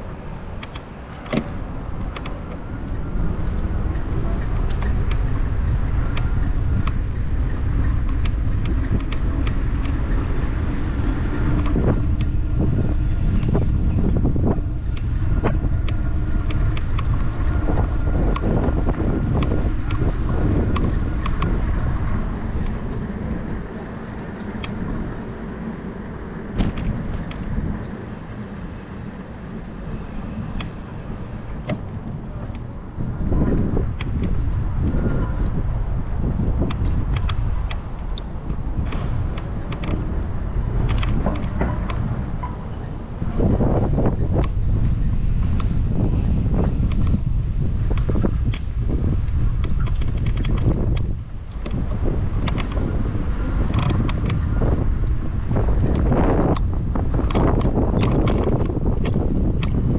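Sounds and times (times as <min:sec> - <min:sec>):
road rumble: 0:00.0 - 0:59.9
wind buffeting microphone: 0:00.0 - 0:59.9.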